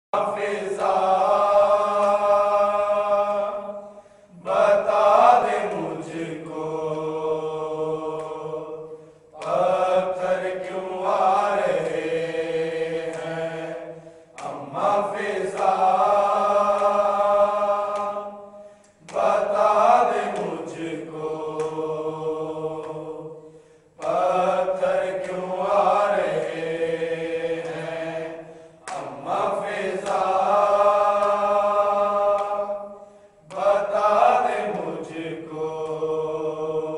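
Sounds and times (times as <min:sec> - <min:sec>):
men chanting: 0:00.2 - 0:36.9.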